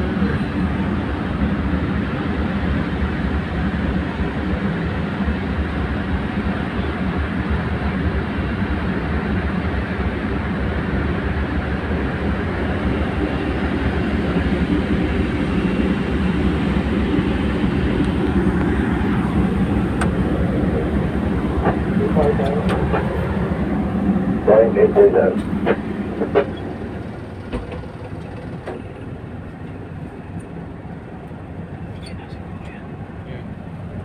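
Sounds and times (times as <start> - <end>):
diesel engines droning: 0.0 - 34.0.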